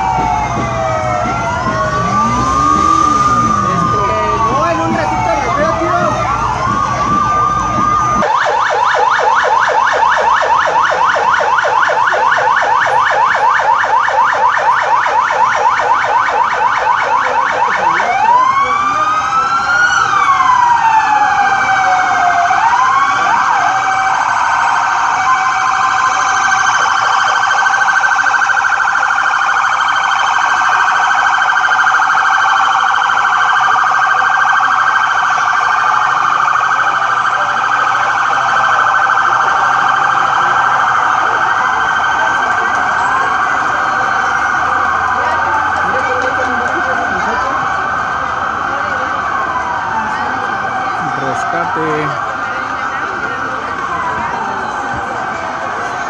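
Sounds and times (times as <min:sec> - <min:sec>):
fast pulsing siren: 0:00.0 - 0:56.0
wailing sirens: 0:00.0 - 0:56.0.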